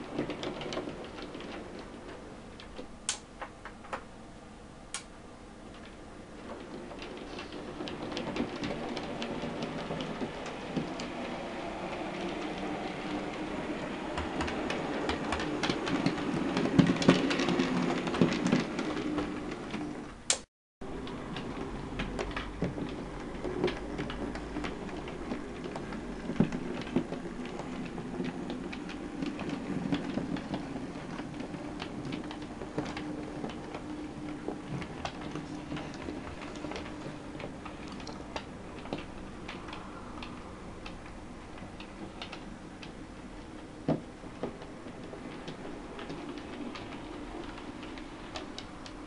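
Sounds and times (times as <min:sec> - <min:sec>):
wheels clicking over rail joints: 0:00.0 - 0:04.1, 0:05.0 - 0:49.0.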